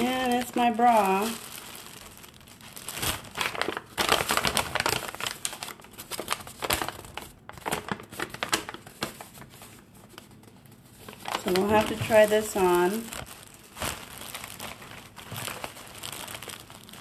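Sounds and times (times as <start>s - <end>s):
paper rustling: 0.0s - 17.0s
plastic packaging crinkling: 0.0s - 17.0s.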